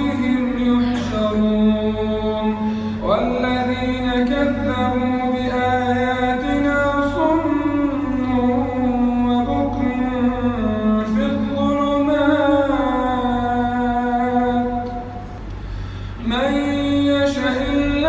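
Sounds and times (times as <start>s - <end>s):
man chanting: 0.0s - 15.2s, 16.2s - 18.0s
steady low hum: 0.0s - 18.0s.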